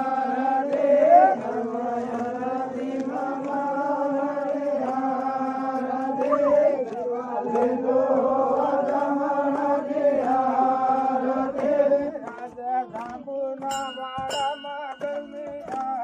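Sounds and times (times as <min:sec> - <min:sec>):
voices chanting devotional song: 0:00.0 - 0:16.0.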